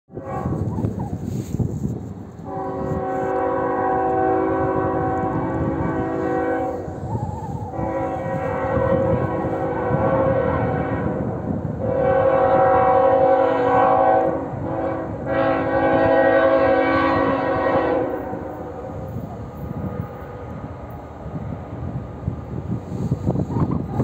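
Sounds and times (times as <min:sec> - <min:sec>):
locomotive air horn blasts: 0:00.1 - 0:01.5, 0:02.4 - 0:20.5
train rumble: 0:00.1 - 0:24.0.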